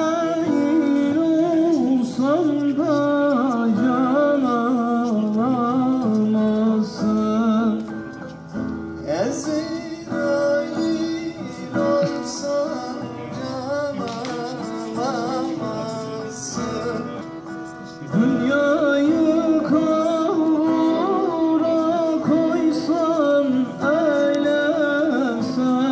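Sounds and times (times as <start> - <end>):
man singing into a microphone: 0.0 - 8.3, 9.0 - 25.9
acoustic guitar: 0.0 - 25.9.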